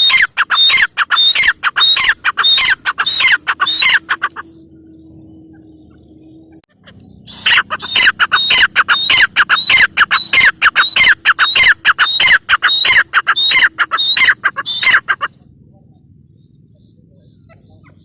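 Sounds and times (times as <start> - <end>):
francolin calling: 0.0 - 18.0.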